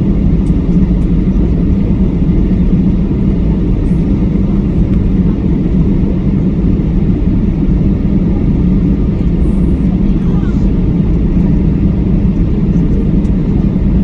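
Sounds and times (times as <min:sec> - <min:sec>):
low drone of jet engines: 0:00.0 - 0:14.0
low hum: 0:00.0 - 0:14.0.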